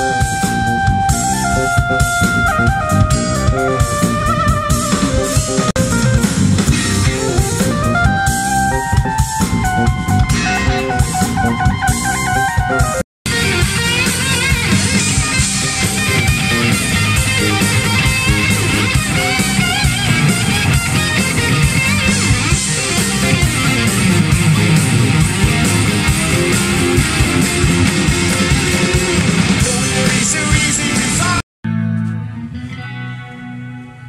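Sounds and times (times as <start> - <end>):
electric guitar: 0.0 - 34.0
rock band playing: 0.0 - 34.0.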